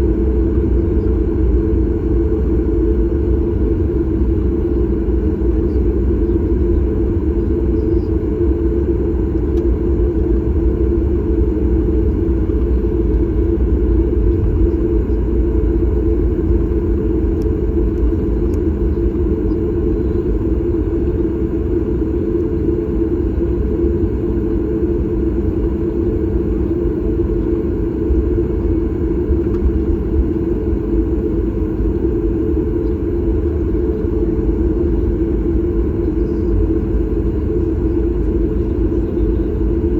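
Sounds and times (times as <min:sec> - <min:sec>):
engine and airflow drone: 0:00.0 - 0:39.9
faint hum: 0:00.0 - 0:39.9.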